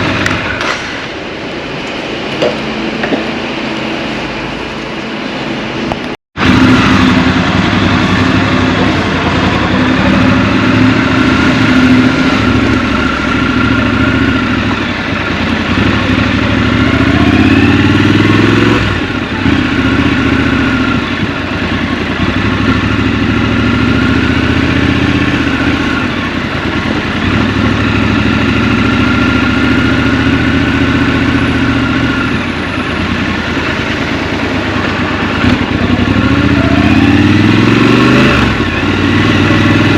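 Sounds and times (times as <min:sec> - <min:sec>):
motorcycle engine revving: 0:00.0 - 0:01.2, 0:05.9 - 0:39.9.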